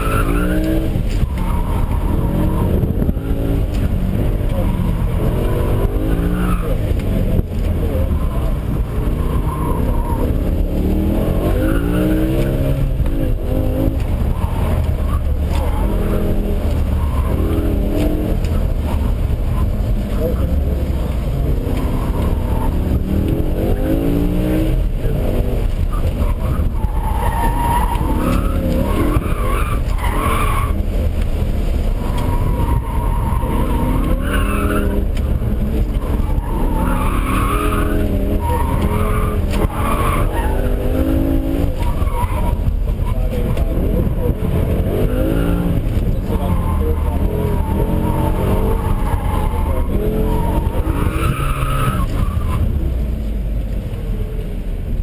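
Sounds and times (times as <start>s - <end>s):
tires squealing: 0.0s - 53.8s
car engine revving: 0.0s - 55.0s.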